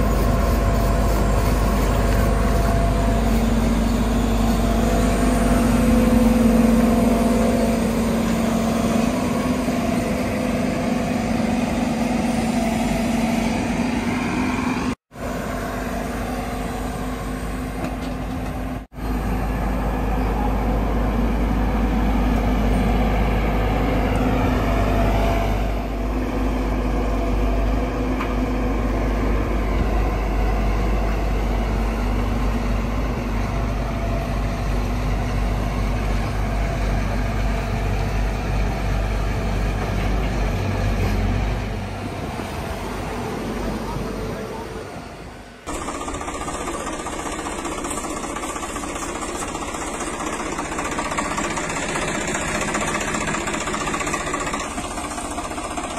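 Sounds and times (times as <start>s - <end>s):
heavy engine running: 0.0s - 55.9s.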